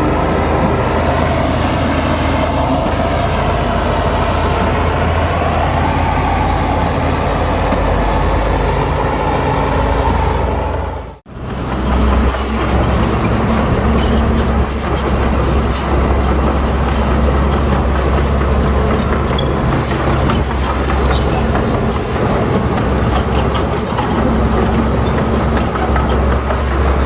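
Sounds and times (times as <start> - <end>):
bulldozer diesel engine running: 0.0 - 27.0
metallic clanks of steel tracks: 0.0 - 27.0.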